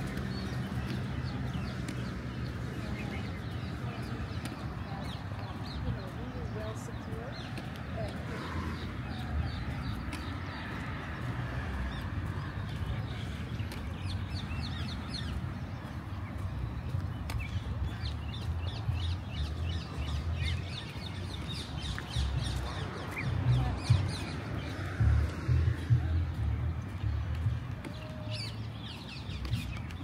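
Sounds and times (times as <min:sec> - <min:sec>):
low street rumble: 0:00.0 - 0:30.0
small birds chirping: 0:00.0 - 0:30.0.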